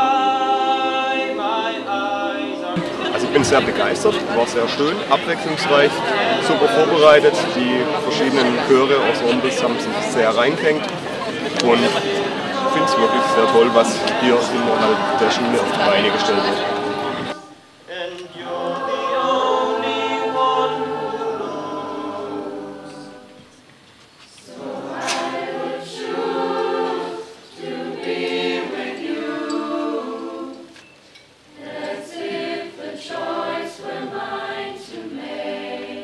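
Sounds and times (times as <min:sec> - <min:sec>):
choir singing held chords: 0:00.0 - 0:36.0.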